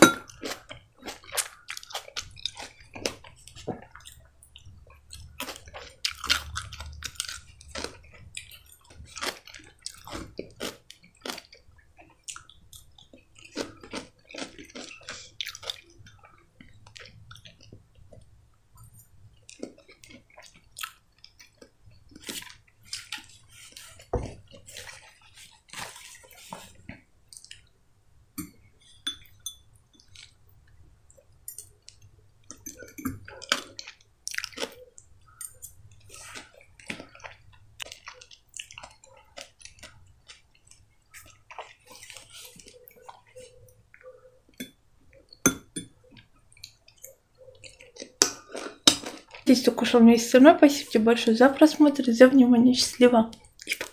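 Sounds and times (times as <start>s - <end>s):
chewing and wet mouth sounds: 0.0s - 27.8s, 28.4s - 53.9s.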